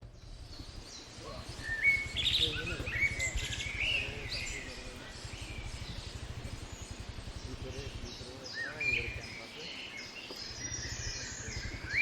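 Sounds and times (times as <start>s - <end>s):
forest birds chirping: 0.0s - 12.0s
steady low rumble: 0.0s - 12.0s.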